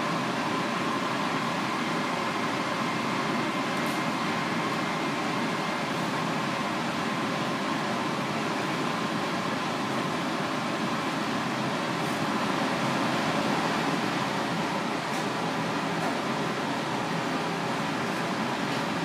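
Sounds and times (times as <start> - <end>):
ventilation fan hissing: 0.0 - 19.0.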